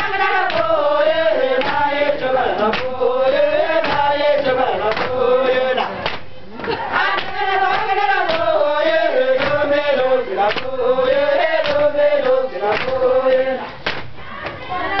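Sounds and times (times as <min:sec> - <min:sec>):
sharp rhythmic knocks: 0:00.0 - 0:13.1
women singing a chant in unison: 0:00.0 - 0:15.0.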